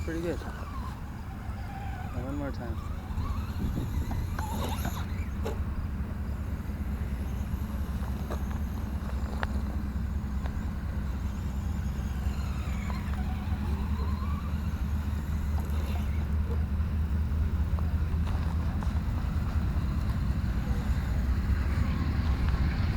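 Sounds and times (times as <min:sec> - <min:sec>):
deep steady rumble: 0:00.0 - 0:22.9
electric motor whining: 0:00.0 - 0:22.9.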